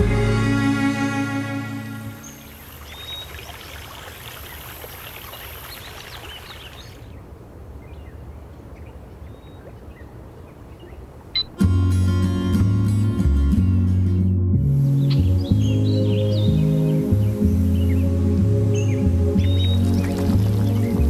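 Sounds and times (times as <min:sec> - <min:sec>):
steady forest hiss: 0:00.0 - 0:11.3, 0:14.6 - 0:21.0.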